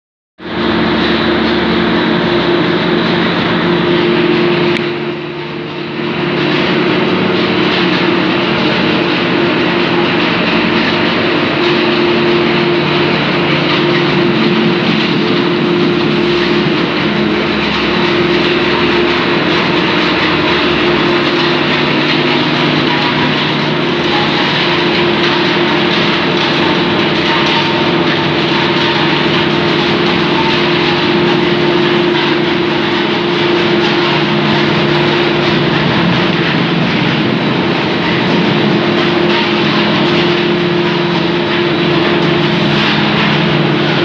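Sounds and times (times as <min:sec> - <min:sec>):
production line machine noise: 0:00.4 - 0:44.0.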